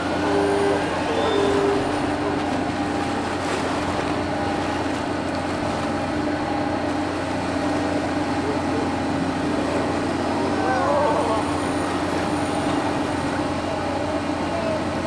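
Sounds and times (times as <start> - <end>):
ship diesel engines droning: 0.0 - 15.0.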